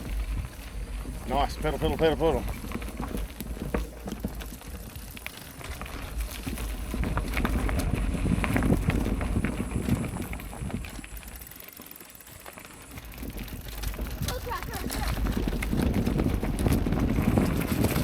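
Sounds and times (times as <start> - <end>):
low wind rumble on microphone: 0.0 - 11.5, 12.9 - 18.0
bike rattling clicks: 0.0 - 18.0
tyres crunching on stones: 0.0 - 18.0.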